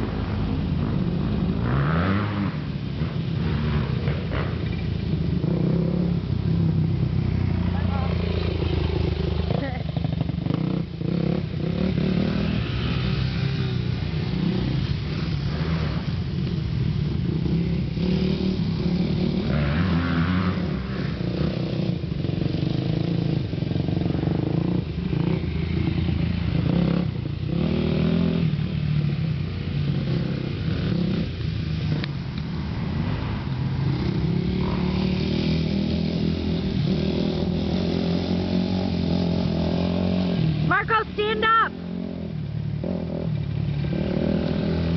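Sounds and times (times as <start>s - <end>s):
dirt bike engine revving: 0.0s - 32.0s, 32.6s - 44.9s.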